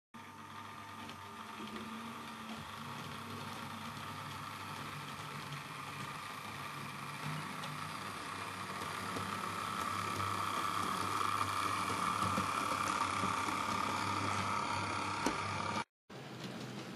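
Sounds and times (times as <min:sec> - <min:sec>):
small electric motors humming: 0:00.2 - 0:15.9
model train wheels on rails: 0:00.6 - 0:16.9.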